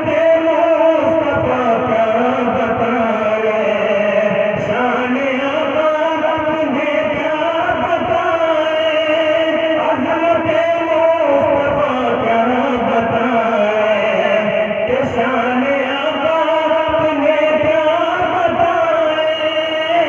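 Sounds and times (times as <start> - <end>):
man chanting through microphone: 0.0 - 20.0.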